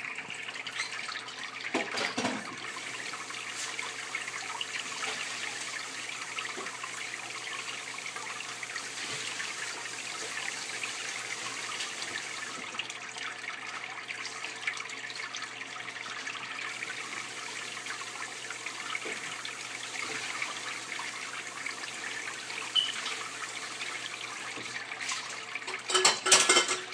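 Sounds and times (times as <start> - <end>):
aquarium water trickling and bubbling: 0.0 - 26.9.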